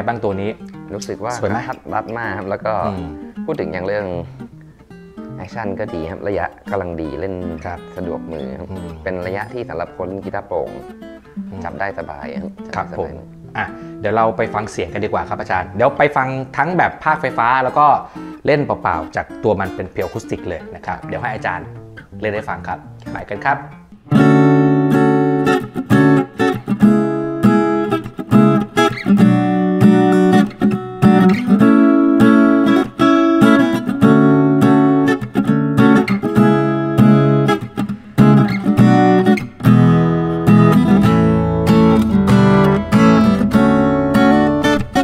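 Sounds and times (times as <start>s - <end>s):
acoustic guitar strummed chords: 0.0s - 45.0s.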